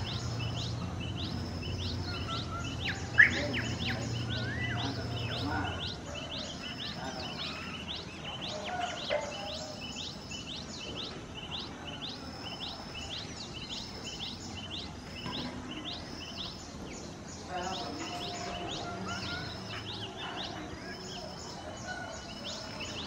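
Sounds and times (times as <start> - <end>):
birds lower falling calls: 0.0 - 23.0.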